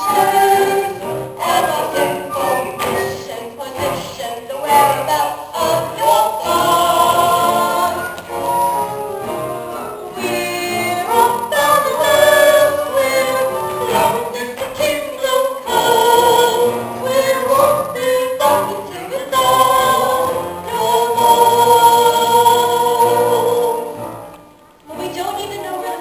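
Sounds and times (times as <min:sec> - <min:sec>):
cast singing ensemble song: 0:00.0 - 0:26.0
musical accompaniment: 0:00.0 - 0:26.0.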